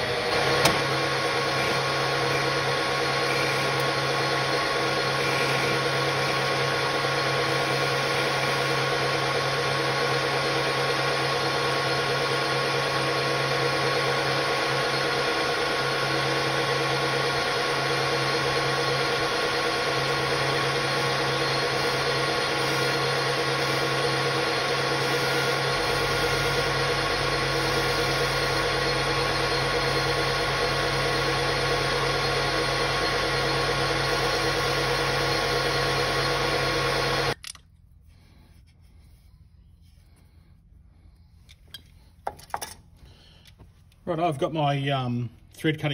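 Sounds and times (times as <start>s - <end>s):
lathe motor humming and whining: 0.0s - 37.4s.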